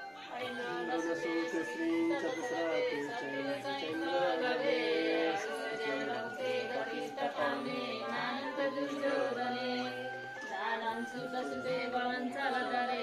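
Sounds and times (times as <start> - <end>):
voices singing long notes: 0.0 - 13.0.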